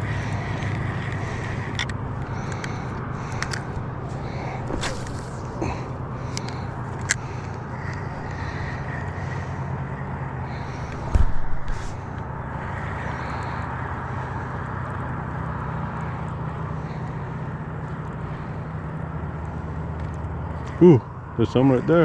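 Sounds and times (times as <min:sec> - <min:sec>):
small boat motor running: 0:00.0 - 0:22.0.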